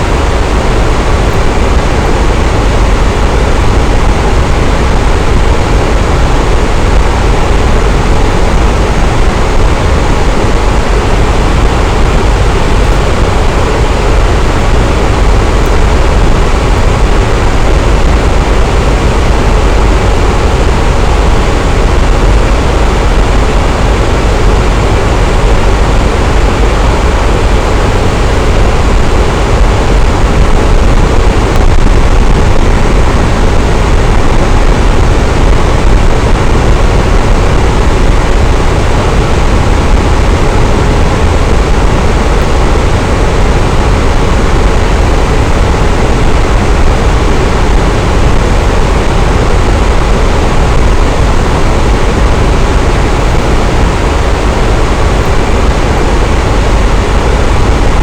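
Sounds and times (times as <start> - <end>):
electric fan whooshing: 0.0 - 58.0.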